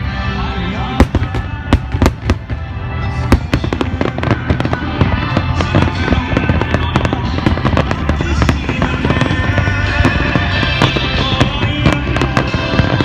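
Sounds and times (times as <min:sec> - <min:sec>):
music playing: 0:00.0 - 0:13.0
fireworks bangs and crackles: 0:00.6 - 0:13.0.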